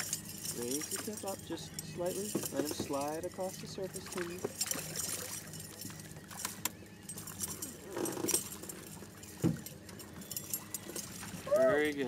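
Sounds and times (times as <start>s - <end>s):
fishing tackle clicking and rattling: 0.0s - 12.0s.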